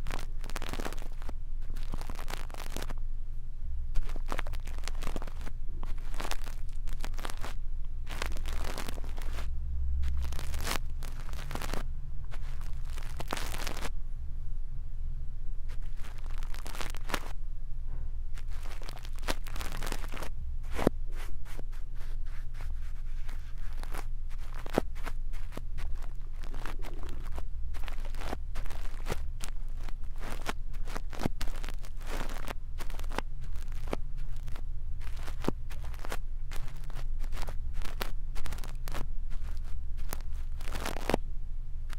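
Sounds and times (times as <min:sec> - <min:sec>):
brush scratching on ear: 0:00.0 - 0:03.0, 0:04.0 - 0:13.9, 0:15.7 - 0:17.3, 0:18.4 - 0:41.2
steady low hum: 0:00.0 - 0:41.9.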